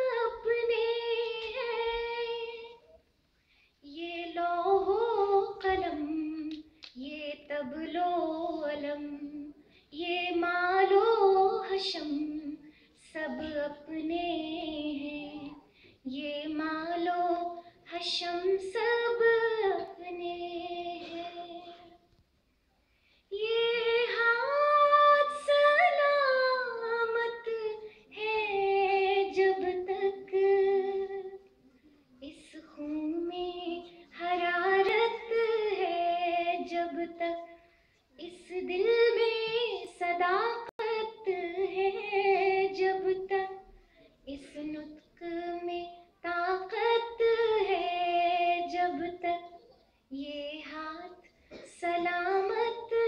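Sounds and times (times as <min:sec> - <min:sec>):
woman singing unaccompanied: 0:00.0 - 0:02.9, 0:03.8 - 0:22.0, 0:23.3 - 0:31.4, 0:32.2 - 0:37.6, 0:38.2 - 0:43.7, 0:44.3 - 0:53.0.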